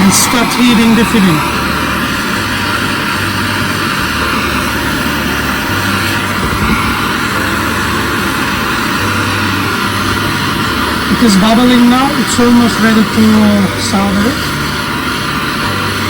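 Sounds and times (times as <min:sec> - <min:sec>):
gas torch flame hissing: 0:00.0 - 0:16.0.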